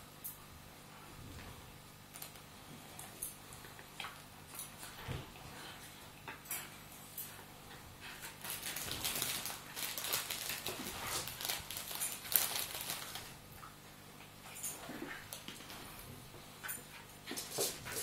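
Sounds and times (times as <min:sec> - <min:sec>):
dogs scuffling and mouthing: 0:02.2 - 0:18.0.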